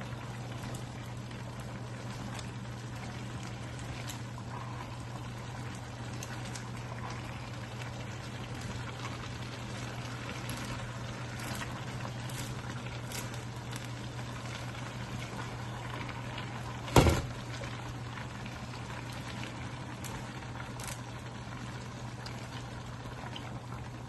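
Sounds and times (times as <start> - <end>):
food sizzling in a pan: 0.0 - 24.0
steady low hum: 0.0 - 24.0.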